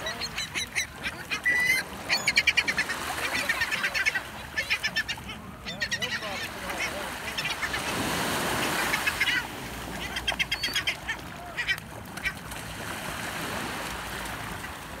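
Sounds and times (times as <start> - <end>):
seabirds calling: 0.0 - 12.6
small waves breaking: 0.0 - 15.0.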